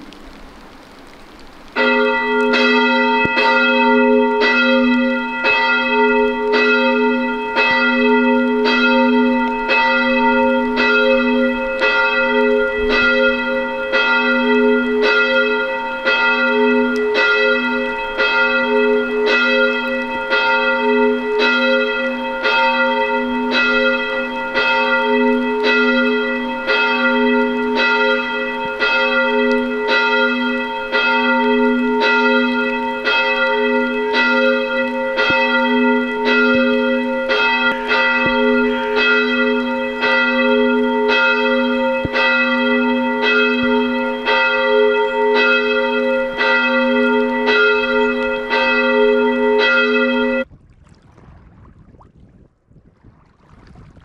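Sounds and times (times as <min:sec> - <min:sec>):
church bell tolling: 0:01.8 - 0:50.5.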